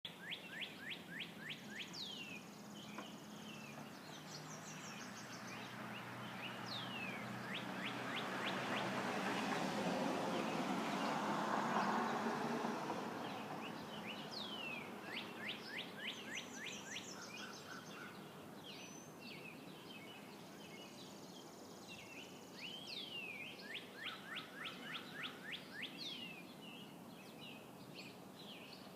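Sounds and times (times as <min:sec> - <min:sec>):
songbirds trilling: 0:00.1 - 0:28.9.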